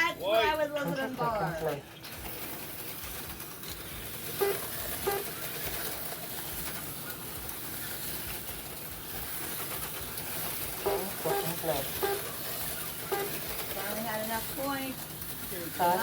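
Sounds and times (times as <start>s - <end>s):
slot cars whirring on track: 0.0s - 16.0s.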